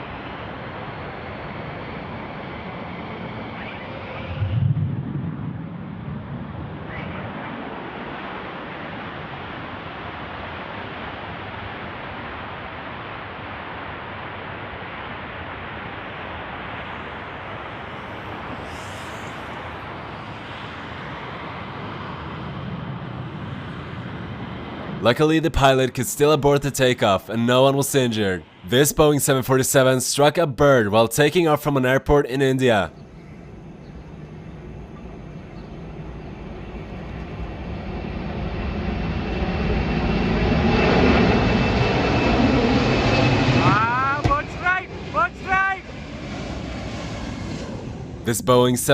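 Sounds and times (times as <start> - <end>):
jet engines at high power: 0.0 - 48.9.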